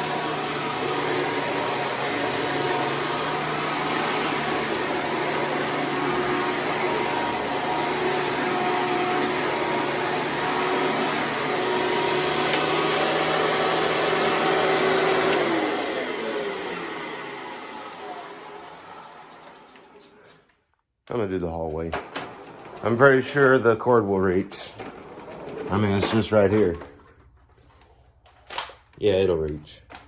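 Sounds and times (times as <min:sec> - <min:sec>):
vacuum cleaner running: 0:00.0 - 0:20.4, 0:21.1 - 0:28.7.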